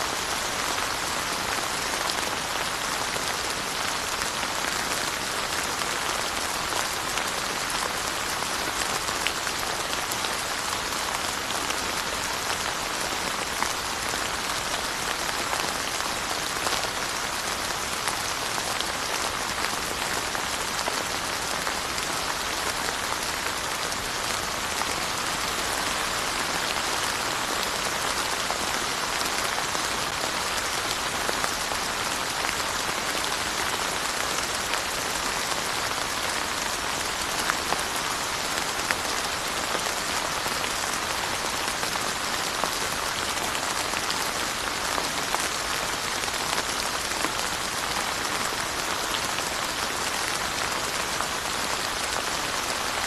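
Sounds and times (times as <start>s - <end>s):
rain pattering on surfaces: 0.1s - 53.0s.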